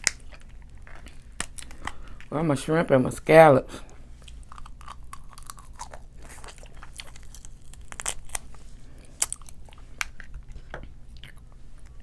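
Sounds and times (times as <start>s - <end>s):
person chewing and smacking: 0.0s - 2.3s, 4.2s - 12.0s.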